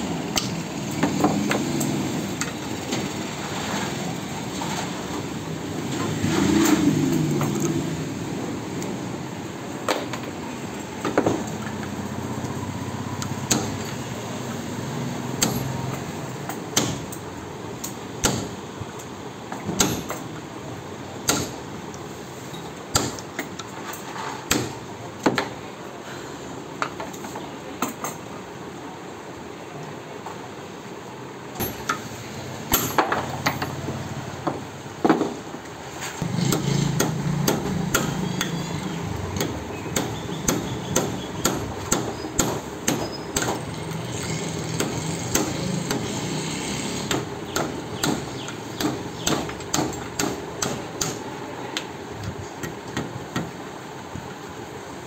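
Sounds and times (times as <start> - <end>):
steady background noise: 0.0 - 55.0.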